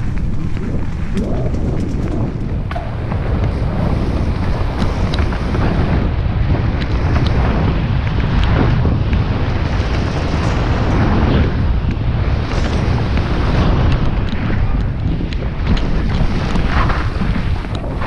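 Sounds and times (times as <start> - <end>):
bike clicks and rattles: 0.0 - 18.0
wind buffeting microphone: 0.0 - 18.0.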